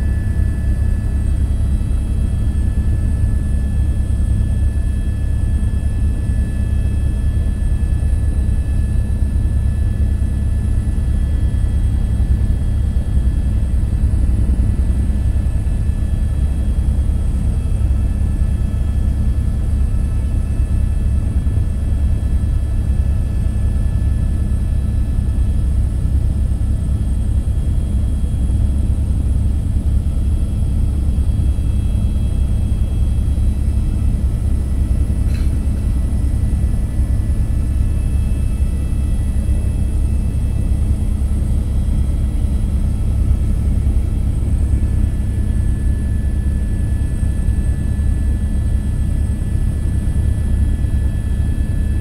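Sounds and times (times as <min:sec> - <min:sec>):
helicopter rotor and engine drone: 0:00.0 - 0:52.0.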